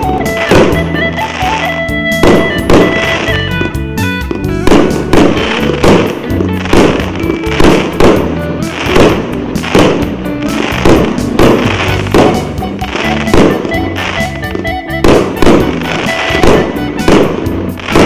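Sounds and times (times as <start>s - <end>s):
background music: 0.0s - 18.0s
fireworks shots and bursts: 0.0s - 18.0s.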